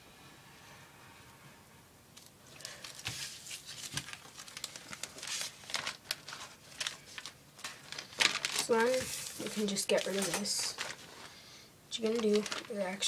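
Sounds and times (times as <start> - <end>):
plastic bag crinkling: 2.4 - 13.0.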